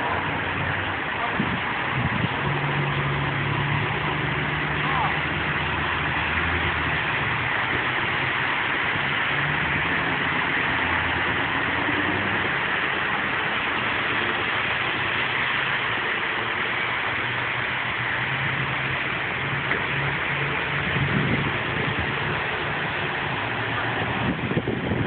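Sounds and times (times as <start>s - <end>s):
heavy engines idling: 0.0s - 25.0s
vehicles passing on wet road: 0.0s - 25.0s.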